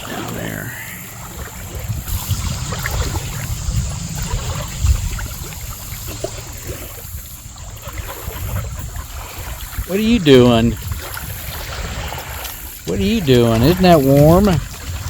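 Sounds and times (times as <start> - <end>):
river water lapping at shore: 0.0 - 15.0
small water splashes: 0.0 - 15.0.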